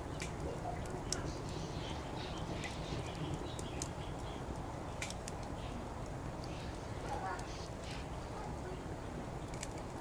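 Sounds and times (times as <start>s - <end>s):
firewood crackling and popping: 0.0s - 10.0s.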